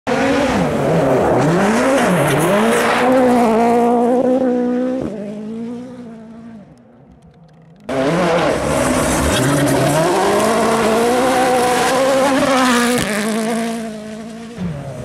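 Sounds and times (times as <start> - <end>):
rally car engine revving: 0.1 - 15.0.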